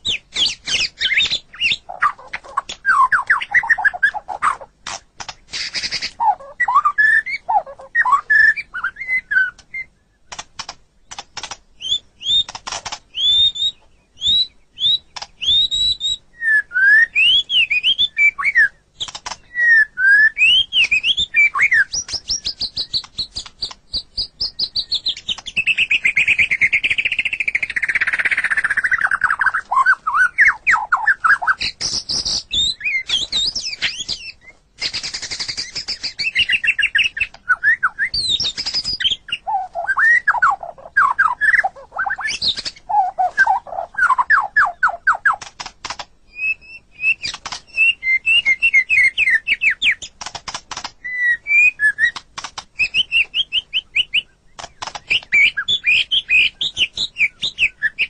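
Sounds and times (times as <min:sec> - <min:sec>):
songbird singing whistled notes: 0:00.0 - 0:10.4, 0:11.0 - 0:45.5, 0:46.3 - 0:50.2, 0:50.8 - 0:58.0.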